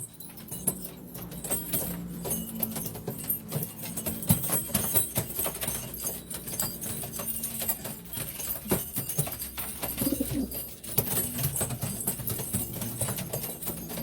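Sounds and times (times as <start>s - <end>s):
pigeons shuffling and tapping: 0.0s - 14.0s.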